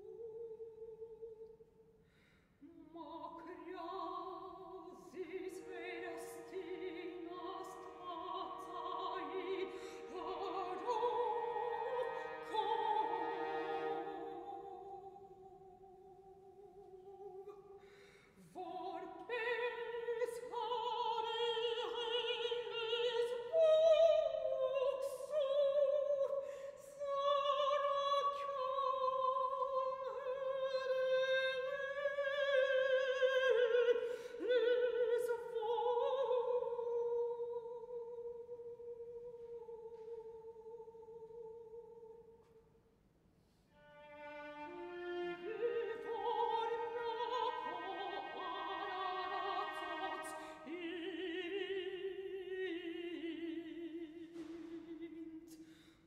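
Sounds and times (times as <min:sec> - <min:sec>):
woman singing with vibrato: 0:00.0 - 0:01.5, 0:02.6 - 0:17.7, 0:18.4 - 0:42.4, 0:44.2 - 0:55.7
viola: 0:02.6 - 0:17.8, 0:18.4 - 0:42.4, 0:43.7 - 0:55.7.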